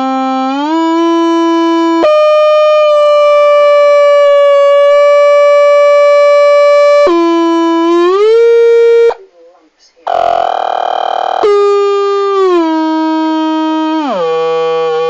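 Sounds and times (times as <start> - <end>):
sustained pitched tone: 0.0 - 9.2, 10.1 - 15.0.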